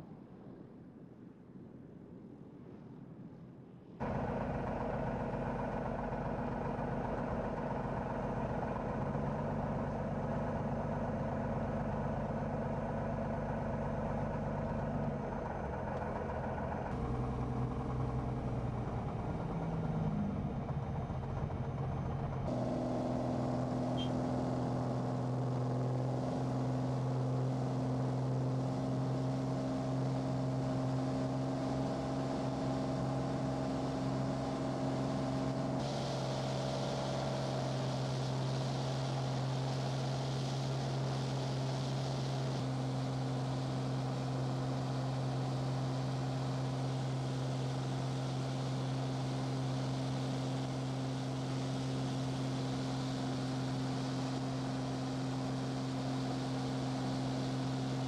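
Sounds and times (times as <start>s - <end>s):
propeller aircraft engine droning: 4.0s - 58.0s.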